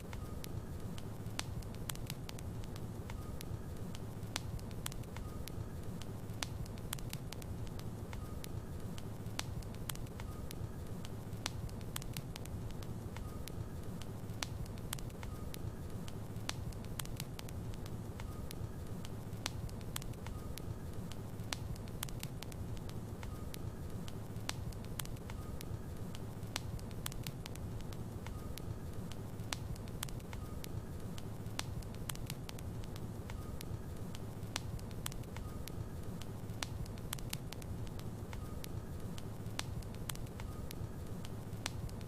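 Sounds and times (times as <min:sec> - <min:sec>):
fire crackles and pops: 0:00.0 - 0:42.0
low rumble of flames: 0:00.0 - 0:42.0.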